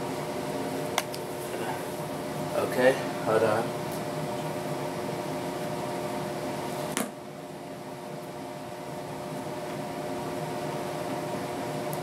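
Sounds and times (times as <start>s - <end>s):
mechanical fan hum: 0.0s - 12.0s.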